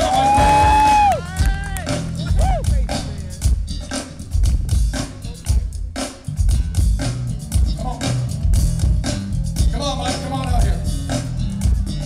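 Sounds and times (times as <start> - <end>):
drum kit beat: 0.0 - 12.0
heavy bass line: 0.0 - 12.0
keyboards: 0.0 - 12.0.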